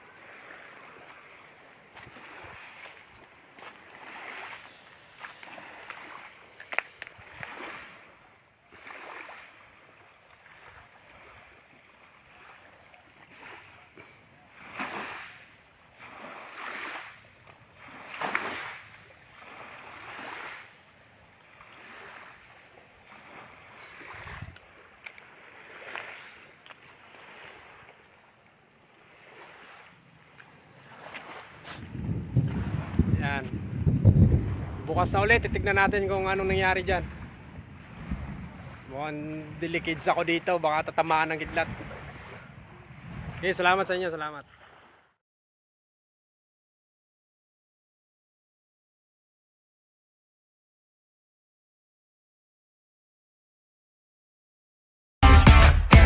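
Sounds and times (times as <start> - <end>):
small waves lapping on shore: 0.0 - 45.2.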